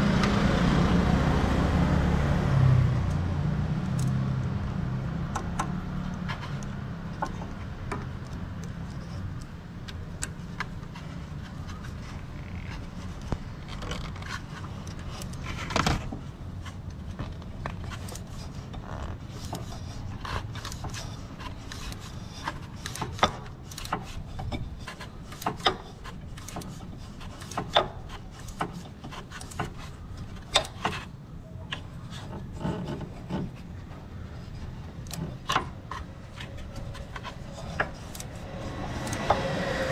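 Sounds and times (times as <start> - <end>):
tools clicking on car parts: 3.8 - 4.3, 5.2 - 39.9.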